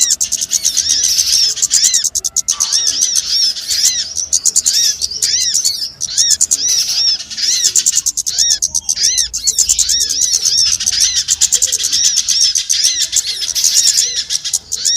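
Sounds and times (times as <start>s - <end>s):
high ticking trill: 0.0s - 14.9s
songbirds chirping: 0.0s - 14.9s.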